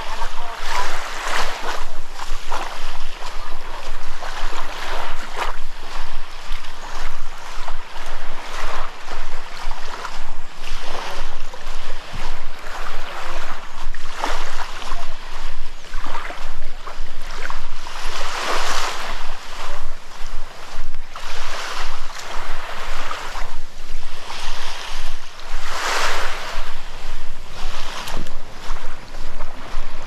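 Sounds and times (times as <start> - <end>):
footsteps in sand: 0.0 - 30.0
waves washing on beach: 0.0 - 30.0
wind on microphone: 0.0 - 30.0.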